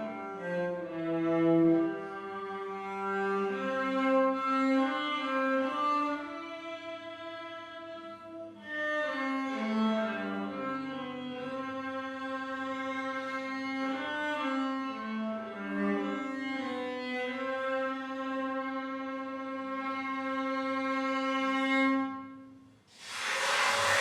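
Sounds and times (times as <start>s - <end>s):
cello playing slow melody: 0.0s - 22.2s.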